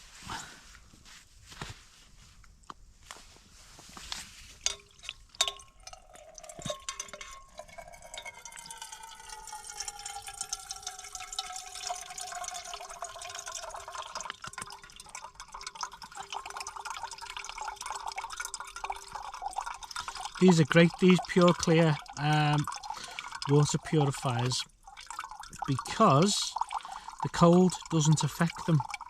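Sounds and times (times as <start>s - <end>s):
water trickling into container: 4.0s - 29.0s.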